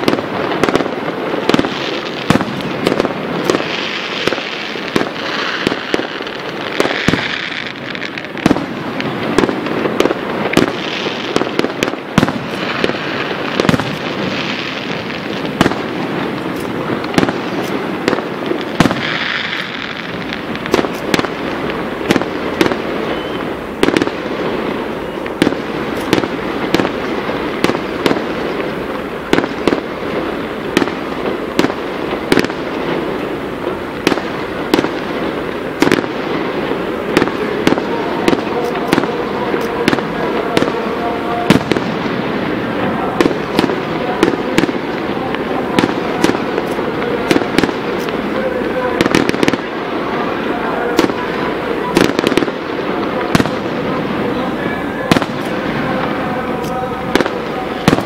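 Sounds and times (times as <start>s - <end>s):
fireworks bangs: 0.0s - 58.0s
fireworks crackle: 0.0s - 58.0s.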